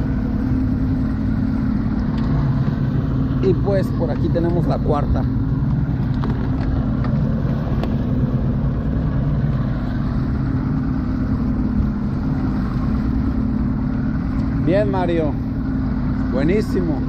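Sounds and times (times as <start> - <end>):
outboard motor droning: 0.0 - 17.0
water rushing from wake: 0.0 - 17.0.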